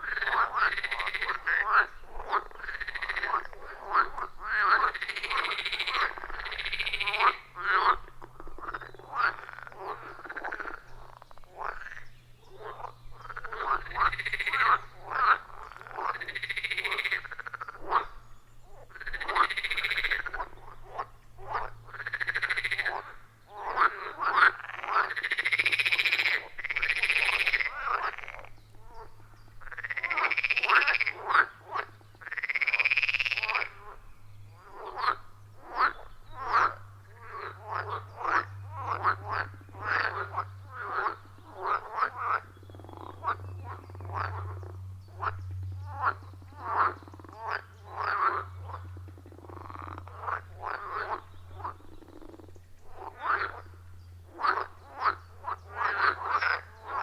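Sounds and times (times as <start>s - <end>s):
chorus of frogs calling: 0.0s - 57.0s.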